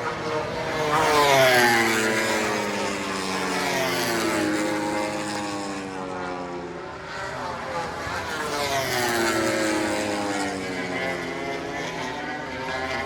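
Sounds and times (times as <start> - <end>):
racing motorcycle passing by: 0.0 - 13.0.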